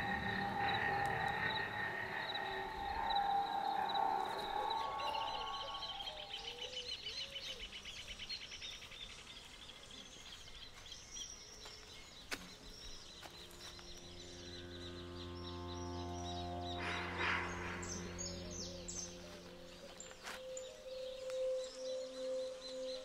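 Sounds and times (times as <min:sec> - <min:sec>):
low drone of film score: 0:00.0 - 0:08.5, 0:10.5 - 0:23.0
birds singing: 0:00.0 - 0:23.0.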